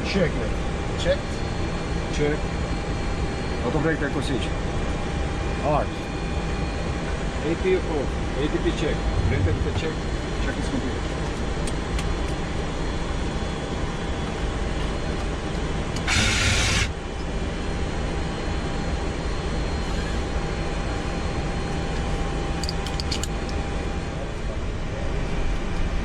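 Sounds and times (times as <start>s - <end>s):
aircraft cockpit hum and rumble: 0.0s - 26.0s.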